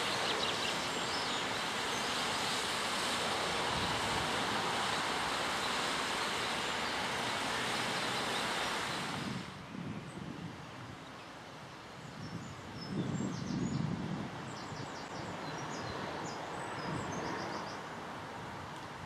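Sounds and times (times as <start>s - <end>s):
wind rumble on microphone: 0.0s - 5.9s, 7.0s - 19.0s.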